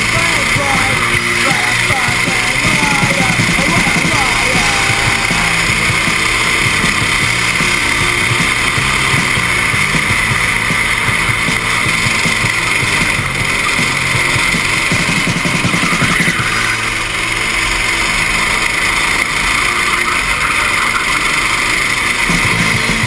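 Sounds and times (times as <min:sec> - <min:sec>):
kart engine running hard: 0:00.0 - 0:23.0.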